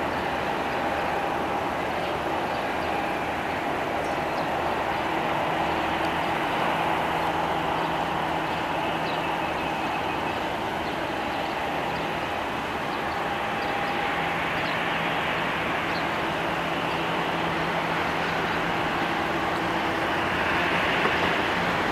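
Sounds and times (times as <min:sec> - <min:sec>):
jet engines idling: 0:00.0 - 0:21.9.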